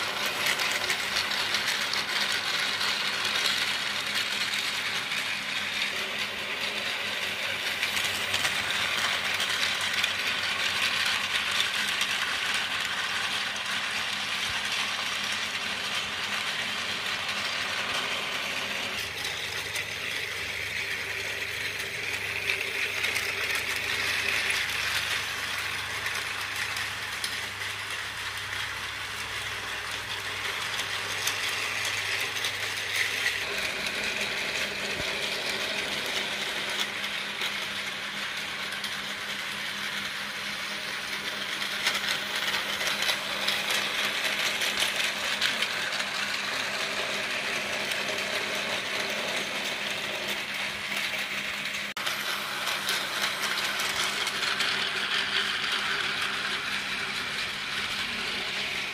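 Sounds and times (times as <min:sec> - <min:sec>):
toy train motors whirring: 0:00.0 - 0:58.9
wheels clattering on plastic track: 0:00.0 - 0:58.9.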